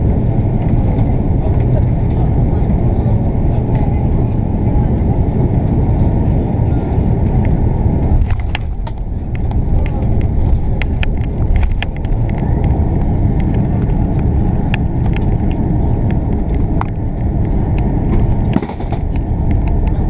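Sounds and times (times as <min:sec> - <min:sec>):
airplane cabin rumble: 0:00.0 - 0:20.0.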